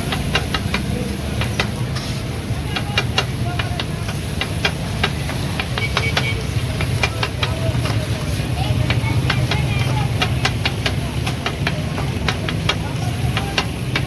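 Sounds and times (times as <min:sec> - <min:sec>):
food sizzling: 0:00.0 - 0:14.0.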